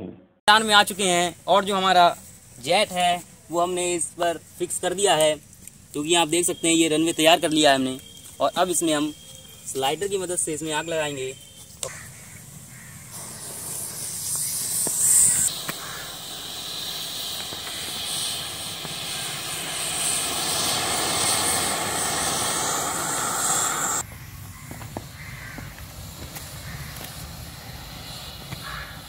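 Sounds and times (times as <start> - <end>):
rocket motor rushing hiss: 0.9 - 29.0.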